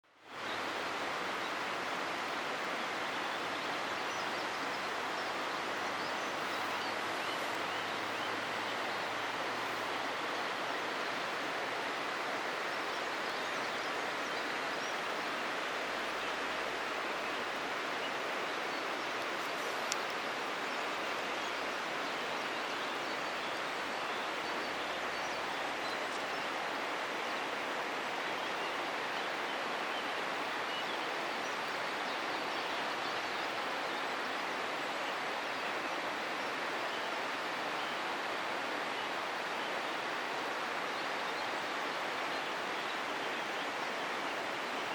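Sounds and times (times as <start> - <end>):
flowing water rushing: 0.0 - 44.9.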